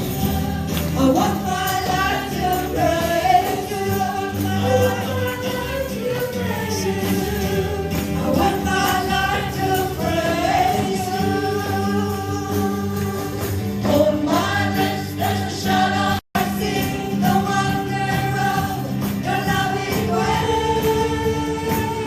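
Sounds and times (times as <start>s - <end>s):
band with steady bass line: 0.0s - 22.0s
voices singing together: 0.0s - 22.0s.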